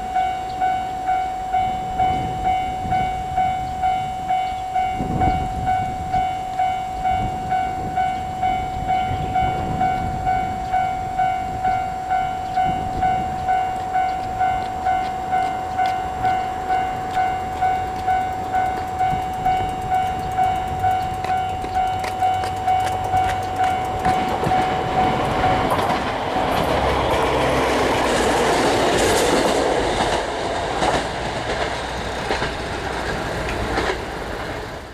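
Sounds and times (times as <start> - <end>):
diesel railcar engine running: 0.0 - 34.9
level crossing warning bell: 0.0 - 34.9
wheels clicking over rail joints: 0.0 - 34.9.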